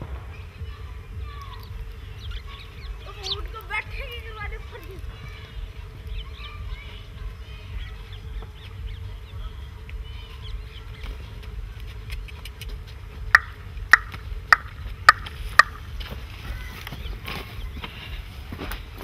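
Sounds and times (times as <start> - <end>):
faint steady hum: 0.0 - 19.0
low wind rumble: 0.0 - 19.0
small birds chirping: 0.0 - 19.0.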